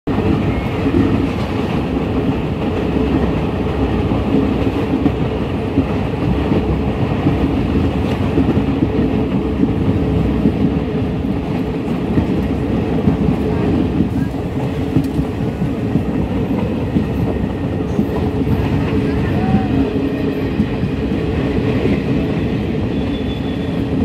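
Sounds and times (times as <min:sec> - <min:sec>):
train wheels on track: 0:00.1 - 0:24.0.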